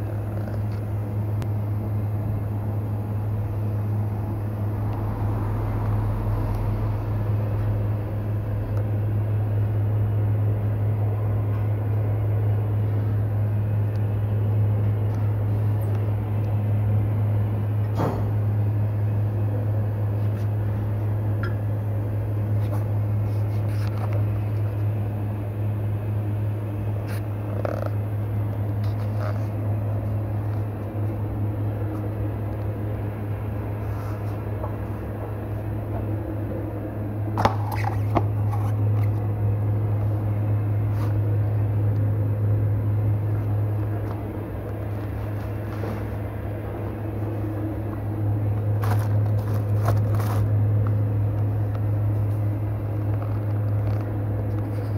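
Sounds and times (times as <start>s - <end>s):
low mechanical hum: 0.0s - 54.9s.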